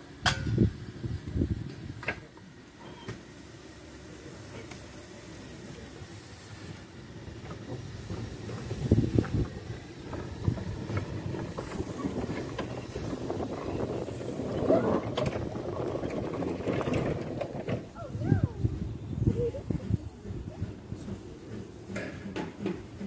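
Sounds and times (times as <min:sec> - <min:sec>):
steam hissing: 0:02.5 - 0:23.0
steam locomotive chuffing: 0:02.5 - 0:23.0.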